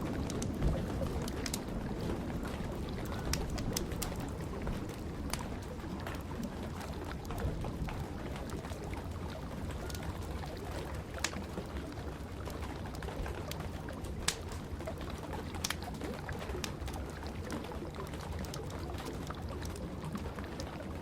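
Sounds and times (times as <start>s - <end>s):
rain: 0.0s - 21.0s
wood fire crackling: 0.0s - 21.0s.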